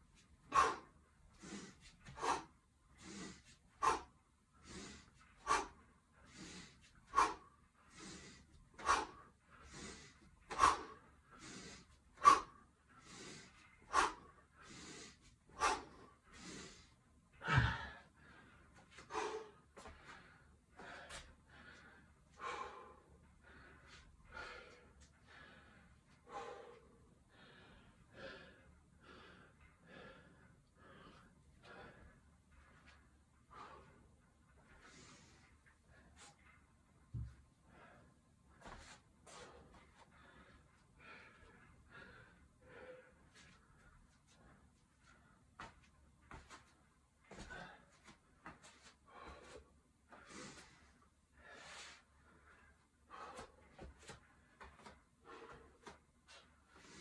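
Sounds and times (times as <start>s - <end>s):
heavy breathing: 0.2s - 57.0s.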